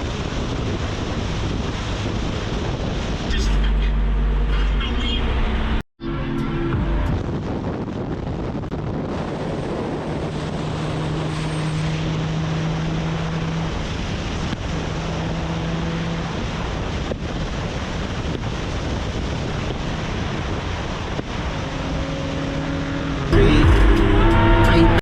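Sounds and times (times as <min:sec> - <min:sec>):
wind rushing over microphone: 0:00.0 - 0:04.2, 0:05.6 - 0:25.0
low engine drone: 0:00.0 - 0:25.0
road and engine noise: 0:00.0 - 0:25.0.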